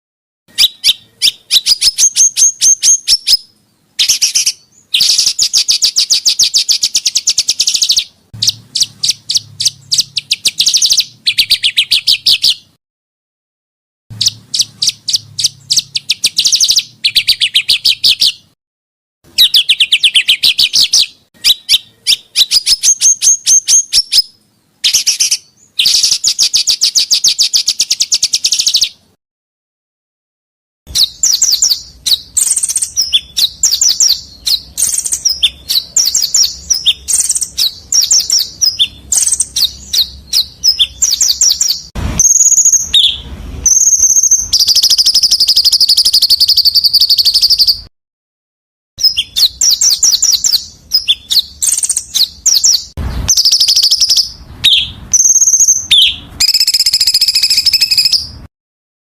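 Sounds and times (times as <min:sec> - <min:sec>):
songbird rattling chirps: 0:00.5 - 0:12.7, 0:14.1 - 0:18.6, 0:19.3 - 0:29.0, 0:30.9 - 0:47.8, 0:49.0 - 0:58.4.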